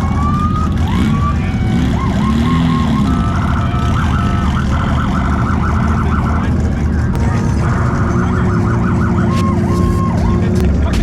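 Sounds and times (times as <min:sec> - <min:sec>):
emergency siren wailing and yelping: 0:00.0 - 0:10.8
vehicle engines rumbling: 0:00.0 - 0:11.0.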